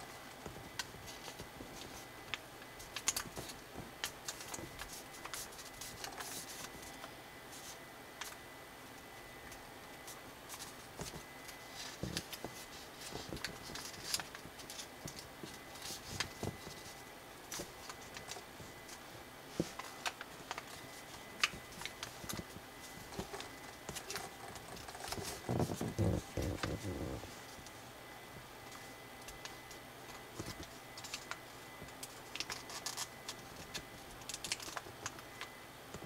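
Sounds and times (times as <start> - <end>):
paper rustling and crinkling: 0.5 - 8.4, 10.0 - 27.7, 28.7 - 35.5.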